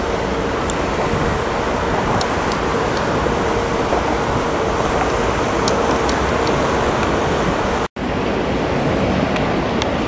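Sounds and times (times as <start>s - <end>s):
jet engines taxiing: 0.0s - 10.0s.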